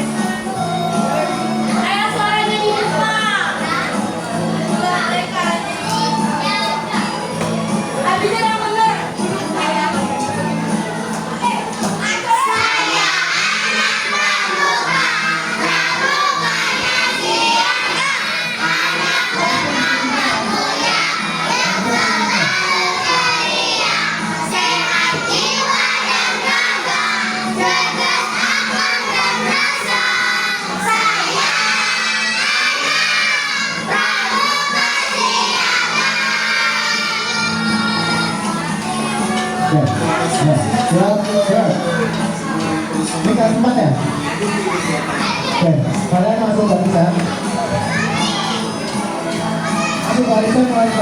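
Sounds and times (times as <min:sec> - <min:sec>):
children singing together: 0:00.0 - 0:07.9, 0:09.2 - 0:43.4, 0:44.0 - 0:45.8, 0:47.2 - 0:51.0
recorded backing music: 0:00.0 - 0:51.0.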